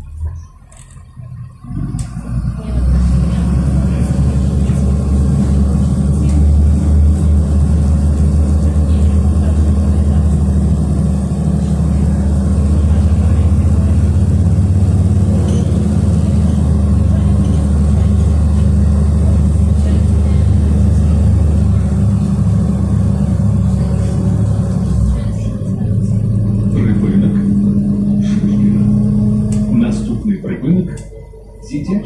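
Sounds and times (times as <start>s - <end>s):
bus diesel engine rumbling: 0.0s - 32.0s.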